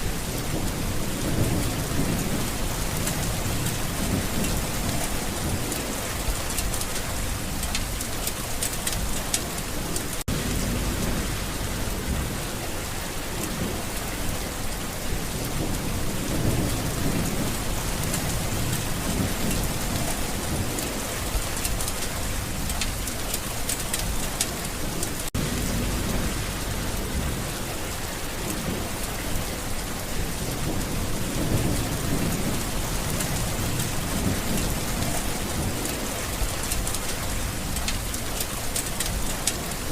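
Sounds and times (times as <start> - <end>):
steady rain: 0.0 - 39.9
thunder rumbles: 0.0 - 39.9.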